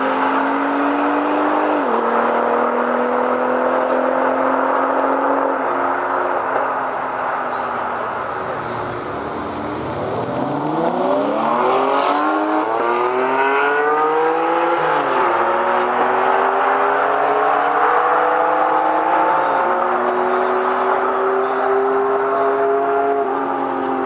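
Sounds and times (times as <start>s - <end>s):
sports car accelerating: 0.0s - 7.4s, 8.1s - 24.0s.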